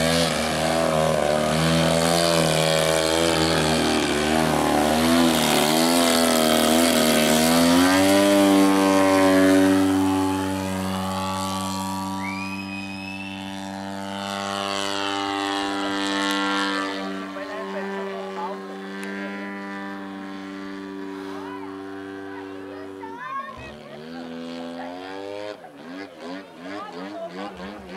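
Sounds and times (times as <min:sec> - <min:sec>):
model plane engine and propeller: 0:00.0 - 0:27.9.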